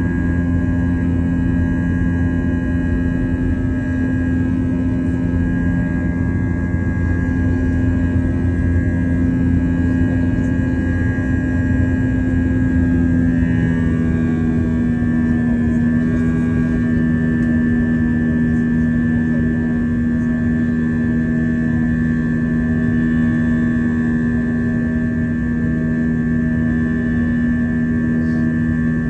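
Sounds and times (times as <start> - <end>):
jet engines during takeoff: 0.0 - 29.0.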